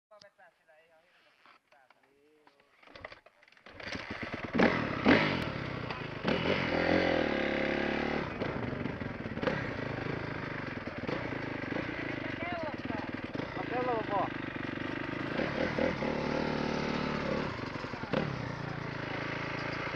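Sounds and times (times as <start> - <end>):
dirt bike engine revving: 3.6 - 19.9.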